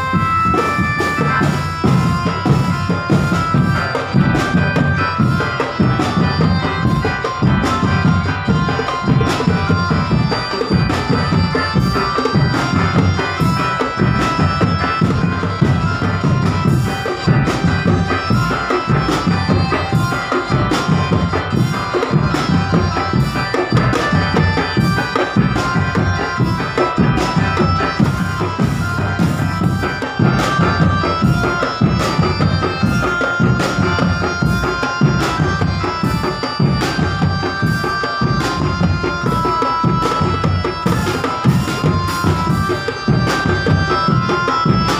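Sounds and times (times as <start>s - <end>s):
fast dense drumming: 0.0s - 44.9s
reedy wind instrument melody: 0.0s - 44.9s.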